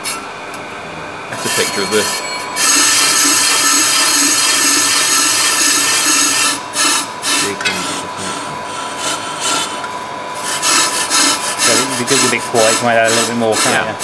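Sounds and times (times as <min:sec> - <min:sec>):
brake lathe scraping metal: 0:01.3 - 0:14.0.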